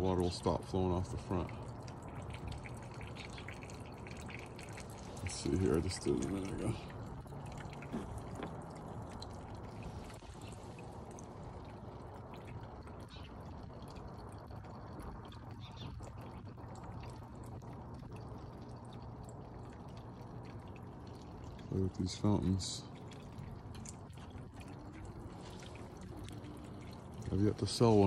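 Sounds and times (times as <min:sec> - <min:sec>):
water dripping: 0:00.0 - 0:28.0
water trickling: 0:00.0 - 0:28.0.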